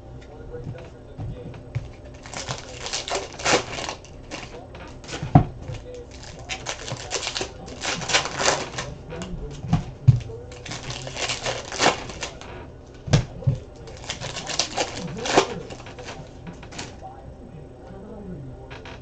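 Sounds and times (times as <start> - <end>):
plastic wrappers crinkling and tearing: 0.7 - 17.1.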